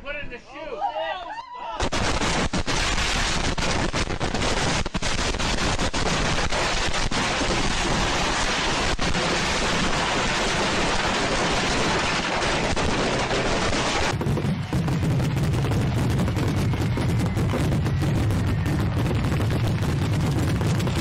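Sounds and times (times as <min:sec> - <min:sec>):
firework hissing and crackling: 0:01.8 - 0:21.0.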